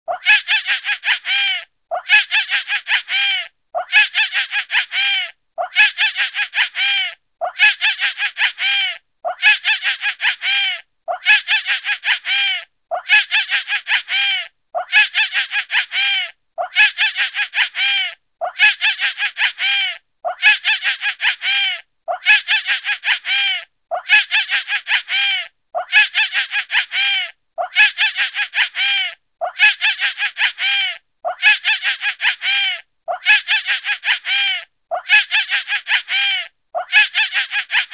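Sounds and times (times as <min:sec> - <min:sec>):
monkey high-pitched chattering calls: 0:00.1 - 0:37.9.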